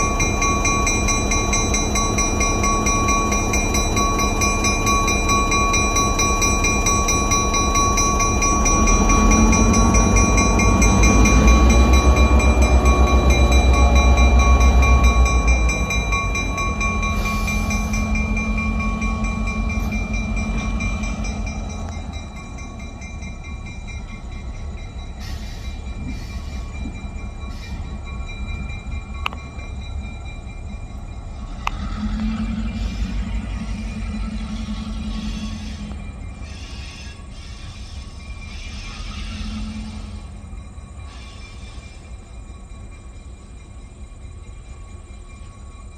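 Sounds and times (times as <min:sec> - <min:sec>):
crossing bell ringing: 0:00.0 - 0:45.9
diesel locomotive engine: 0:00.0 - 0:45.9.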